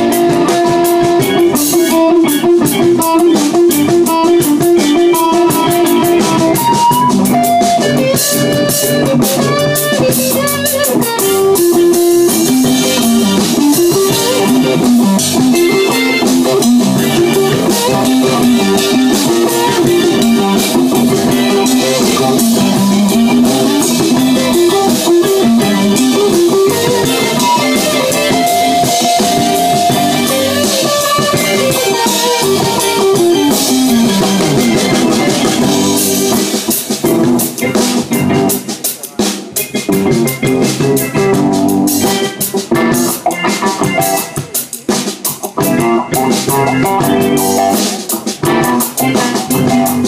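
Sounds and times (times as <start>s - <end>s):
bass guitar: 0.0s - 50.0s
drum kit with cymbals: 0.0s - 50.0s
electric guitar with gliding notes: 0.0s - 50.0s.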